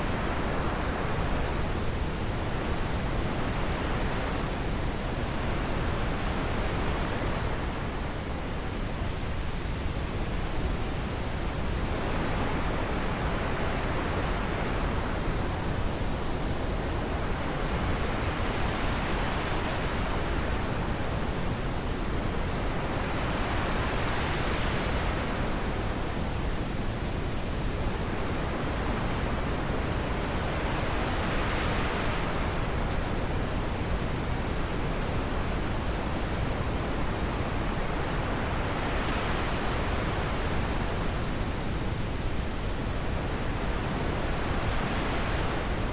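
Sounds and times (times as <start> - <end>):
wind blowing in gusts: 0.0 - 45.9.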